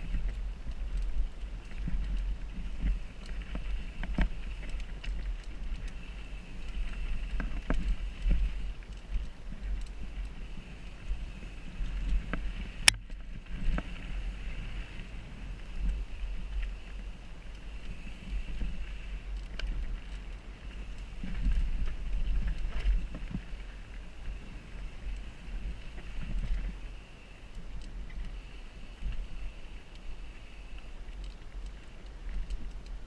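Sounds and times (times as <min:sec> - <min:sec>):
bike rattling: 0:00.0 - 0:33.0
wind rumble on microphone: 0:00.0 - 0:33.0.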